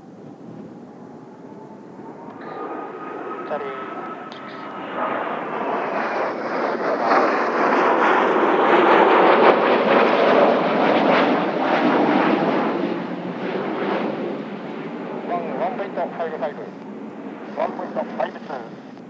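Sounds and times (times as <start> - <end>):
jet aircraft low pass: 0.0 - 19.0.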